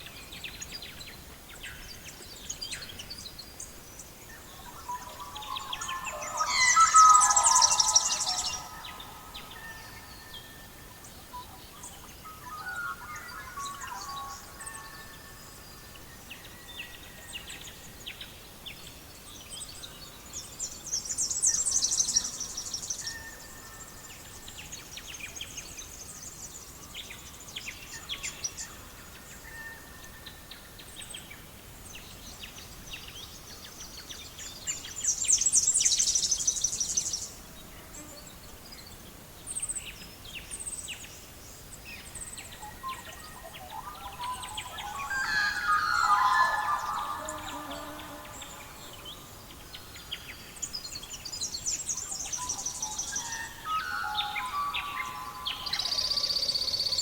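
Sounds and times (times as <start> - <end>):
songbirds trilling and chirping: 0.0 - 18.4, 19.0 - 57.0.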